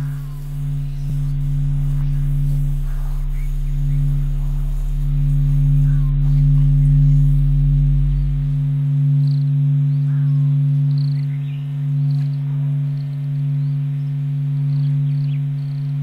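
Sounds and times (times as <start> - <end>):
deep hum: 0.0 - 16.0
drone of low tones: 0.0 - 16.0.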